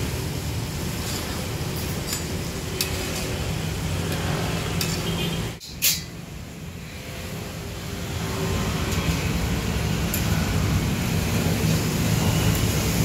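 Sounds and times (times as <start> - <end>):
oil sizzling in a wok: 0.0 - 5.0, 7.4 - 13.0.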